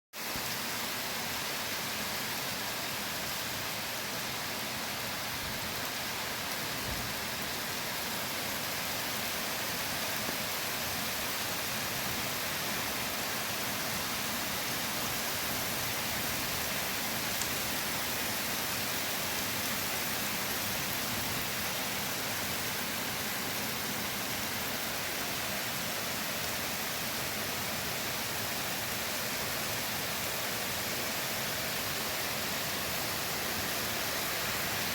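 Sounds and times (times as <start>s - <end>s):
rain on leaves: 0.1s - 34.9s.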